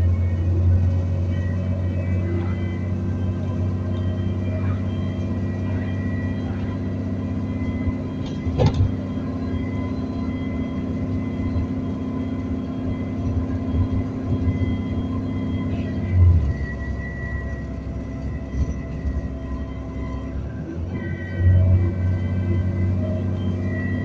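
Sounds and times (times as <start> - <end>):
bus engine droning: 0.0 - 24.0
high whine: 0.0 - 24.0.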